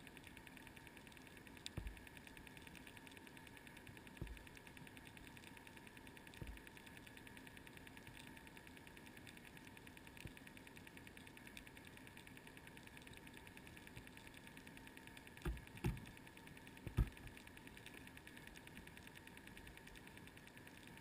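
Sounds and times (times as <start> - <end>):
faint fast ticking: 0.0 - 21.0.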